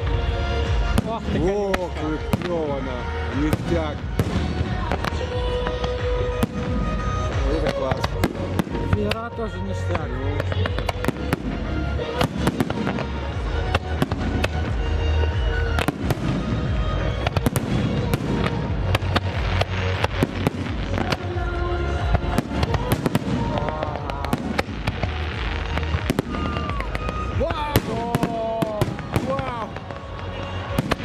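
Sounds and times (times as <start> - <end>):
fireworks bangs and crackles: 0.0 - 31.0
music: 0.0 - 31.0.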